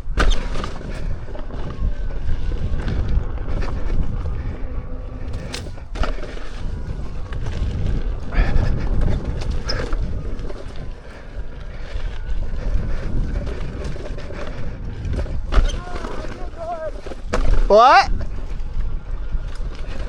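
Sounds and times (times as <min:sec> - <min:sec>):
knocks and rattles from riding: 0:00.0 - 0:20.0
wind buffeting microphone: 0:00.0 - 0:20.0.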